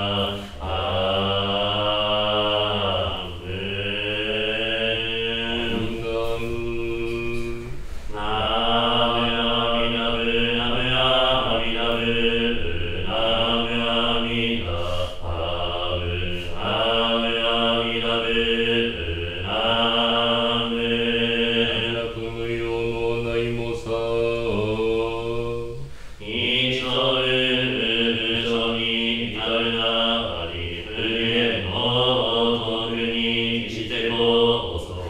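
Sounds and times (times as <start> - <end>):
man chanting long gliding notes: 0.0 - 35.0.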